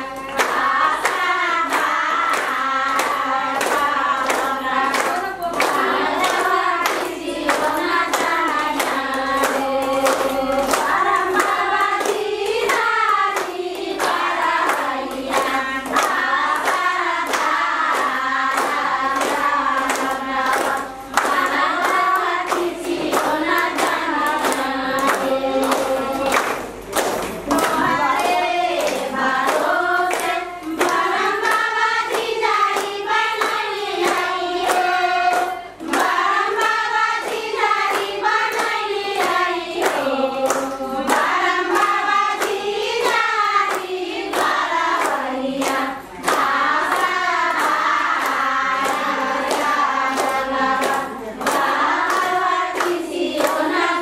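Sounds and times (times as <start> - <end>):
group of voices singing: 0.0 - 54.0
hand claps: 0.0 - 54.0.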